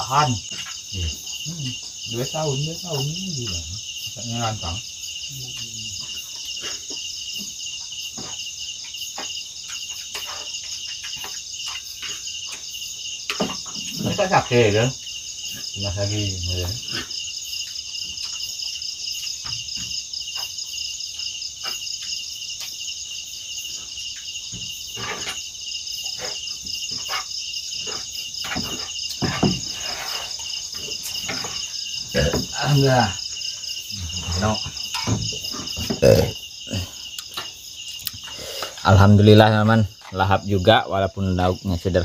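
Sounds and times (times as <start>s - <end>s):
crickets and insects trilling: 0.0s - 42.0s.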